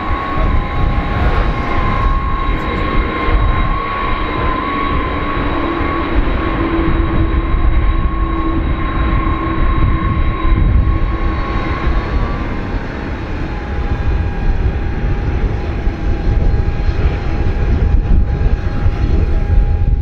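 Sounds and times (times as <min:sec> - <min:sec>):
jet engines rumbling and whining: 0:00.0 - 0:20.0.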